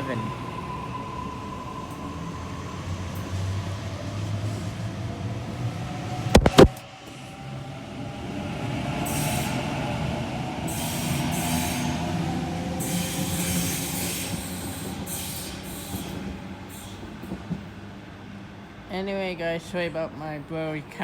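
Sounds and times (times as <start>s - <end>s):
electric train rumble: 0.0s - 18.7s.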